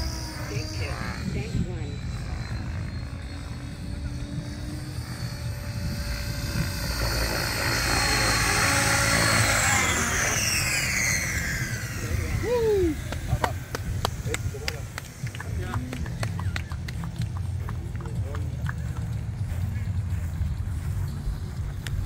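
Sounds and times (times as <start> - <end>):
helicopter rotor blades beating: 0.0 - 22.0
high motor whine: 0.0 - 22.0.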